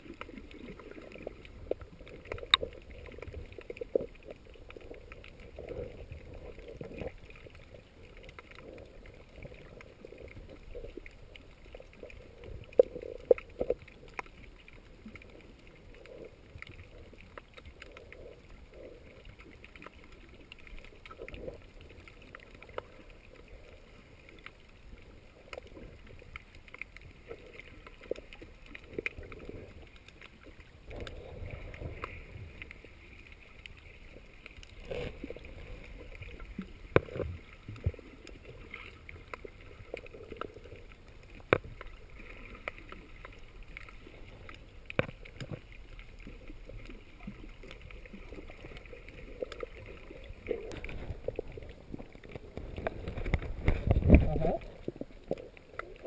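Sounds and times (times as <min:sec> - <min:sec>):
small clicks and knocks underwater: 0:00.0 - 0:56.0
underwater water wash: 0:00.0 - 0:56.0.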